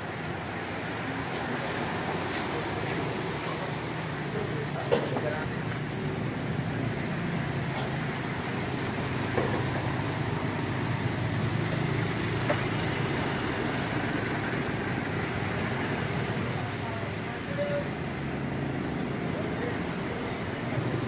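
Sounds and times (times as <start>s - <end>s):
tyres washing through water: 0.0s - 21.0s
vehicle engine hum: 0.0s - 21.0s.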